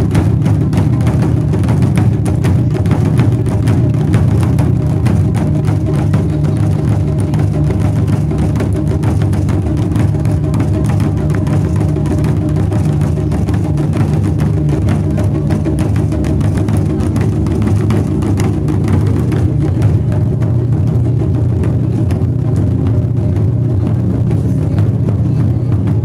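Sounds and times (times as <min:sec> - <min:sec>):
large barrel drums drumming: 0:00.0 - 0:26.0.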